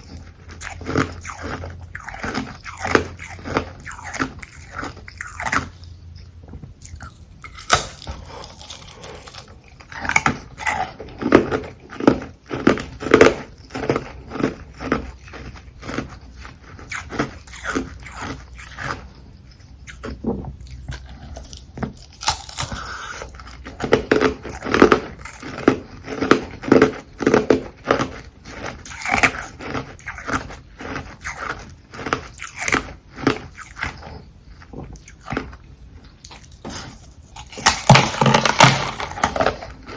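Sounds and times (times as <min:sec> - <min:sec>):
crunchy biting and chewing ice: 0:00.0 - 0:39.9.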